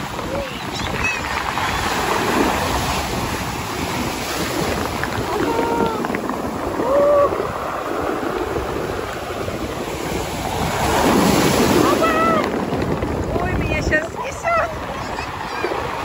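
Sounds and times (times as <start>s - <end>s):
waves breaking on pebble beach: 0.0s - 16.0s.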